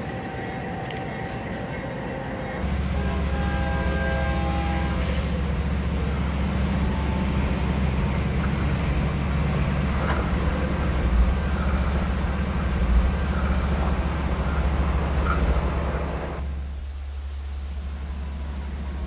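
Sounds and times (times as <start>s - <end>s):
locomotive rumble and churned snow: 2.1s - 19.0s.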